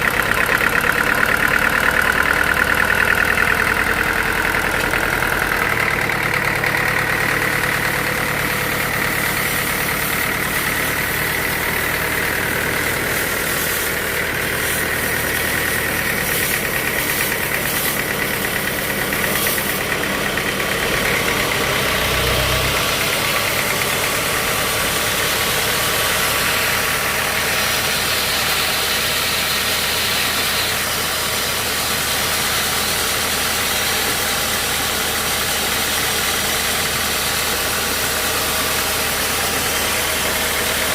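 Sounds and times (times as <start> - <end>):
high machinery whine: 0.0 - 40.9
sawmill machinery engine drone: 0.0 - 40.9.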